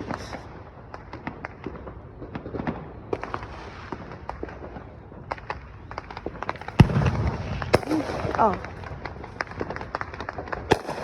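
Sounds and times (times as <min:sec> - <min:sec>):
distant fireworks popping: 0:00.0 - 0:11.0.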